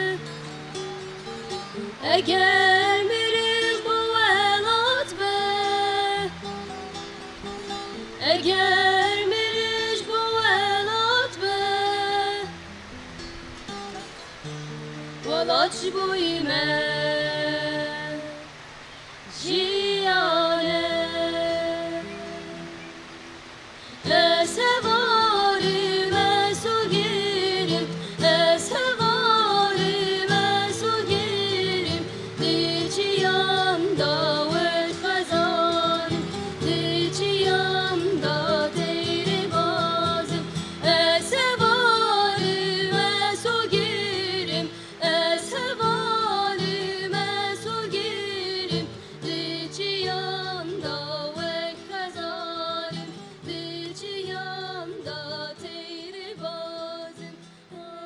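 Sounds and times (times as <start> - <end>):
women singing: 0.0 - 0.6, 1.5 - 6.6, 7.9 - 12.6, 15.2 - 18.6, 19.2 - 22.8, 23.9 - 58.0
acoustic guitar: 0.0 - 58.0
long-necked lute: 0.0 - 58.0.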